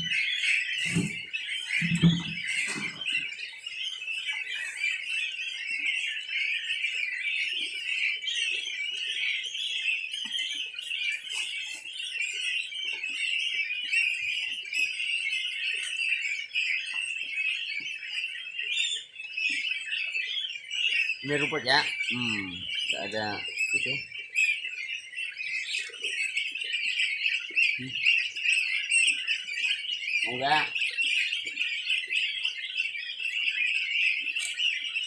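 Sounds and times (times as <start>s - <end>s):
ducklings peeping: 0.0s - 35.0s.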